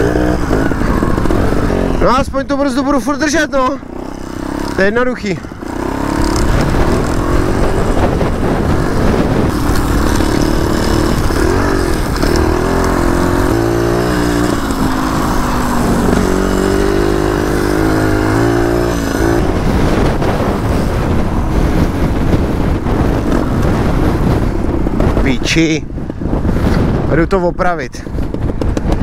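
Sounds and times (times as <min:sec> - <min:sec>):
motorcycle engine revving: 0:00.0 - 0:27.1
rough rumbling noise: 0:00.0 - 0:29.0.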